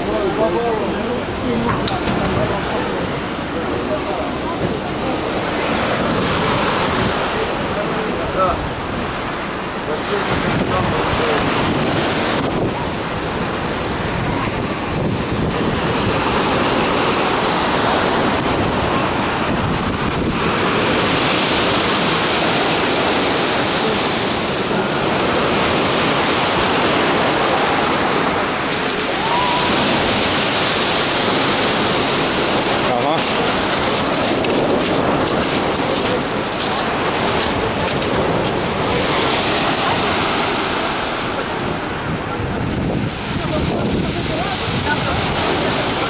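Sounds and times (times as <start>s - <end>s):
surf washing over pebbles: 0.0s - 46.0s
wind buffeting microphone: 0.0s - 46.0s.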